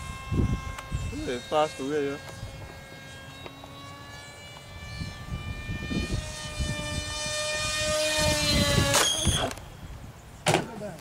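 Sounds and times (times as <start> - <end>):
model plane motor whine: 0.0 - 10.2
wind rumbling on microphone: 0.0 - 11.0.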